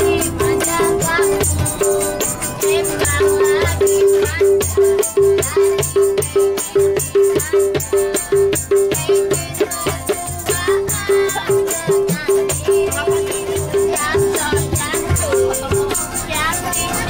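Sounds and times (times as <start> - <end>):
can drum beaten in quick rhythm: 0.0 - 17.0
person singing: 0.0 - 17.0.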